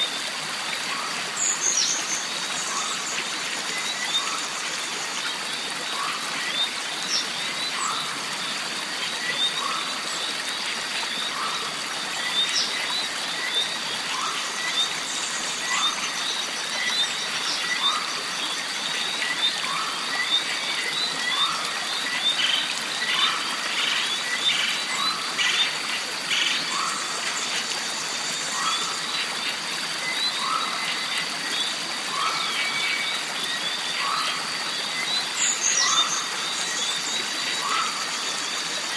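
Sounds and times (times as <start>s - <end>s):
flowing stream water: 0.0s - 38.9s.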